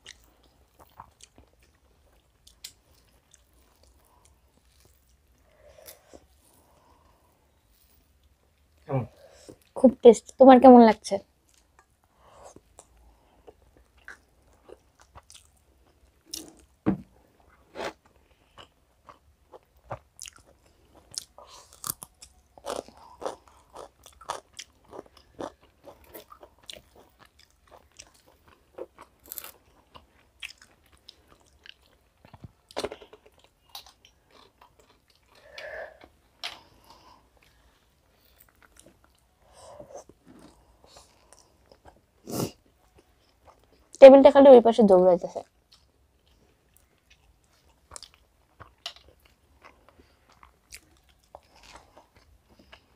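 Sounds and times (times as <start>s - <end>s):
people chewing food: 0.0s - 9.8s, 11.3s - 44.0s, 45.4s - 52.9s.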